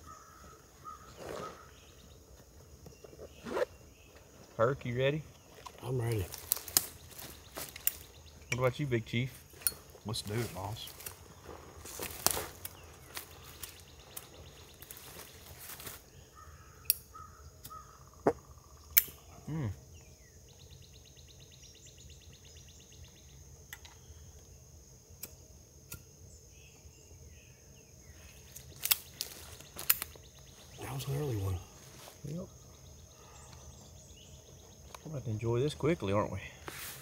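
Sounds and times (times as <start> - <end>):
quiet swamp background: 0.0 - 37.0.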